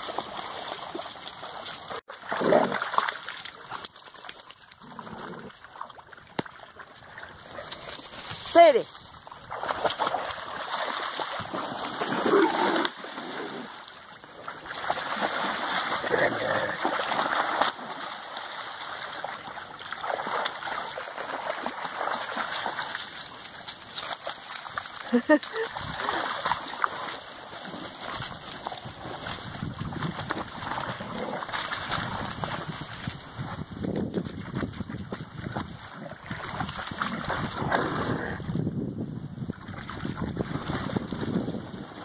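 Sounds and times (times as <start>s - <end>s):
dogs splashing through water: 0.0s - 38.7s, 39.5s - 42.0s.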